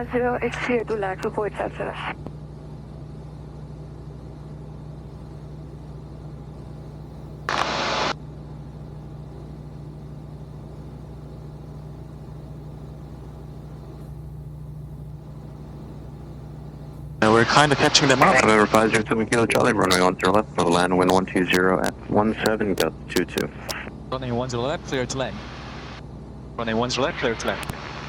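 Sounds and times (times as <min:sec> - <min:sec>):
aircraft engine and propeller drone: 0:00.0 - 0:28.0.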